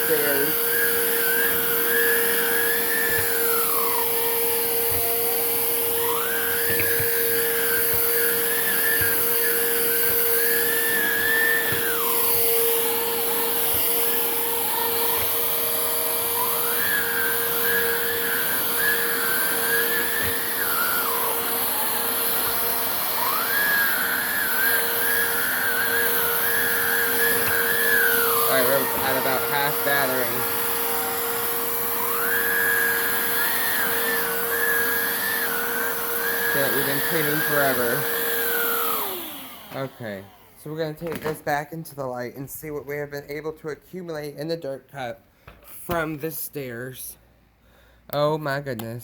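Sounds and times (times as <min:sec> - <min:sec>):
cordless vacuum running: 0:00.0 - 0:42.8.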